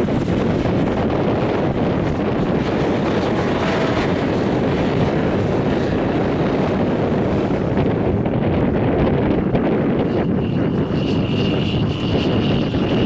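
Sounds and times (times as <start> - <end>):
dune buggy engine running: 0.0 - 13.0
wind rumble on microphone: 0.0 - 13.0.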